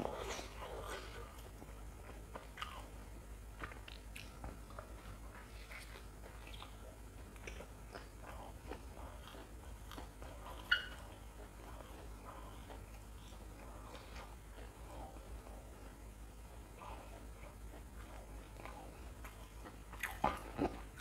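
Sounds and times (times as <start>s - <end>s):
person crunching and chewing food: 0.0s - 21.0s.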